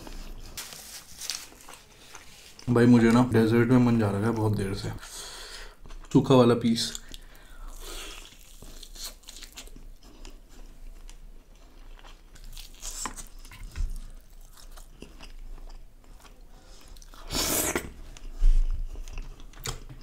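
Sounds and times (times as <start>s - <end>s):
person chewing crunchy food: 0.0s - 3.2s, 6.9s - 20.0s.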